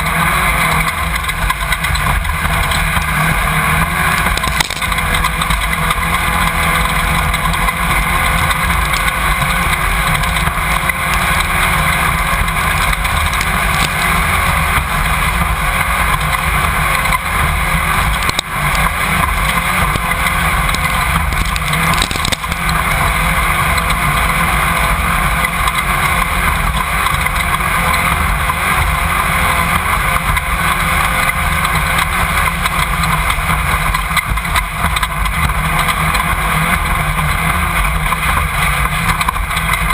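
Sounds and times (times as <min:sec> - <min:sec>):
chassis rattle: 0:00.0 - 0:39.9
race car engine under load: 0:00.0 - 0:39.9.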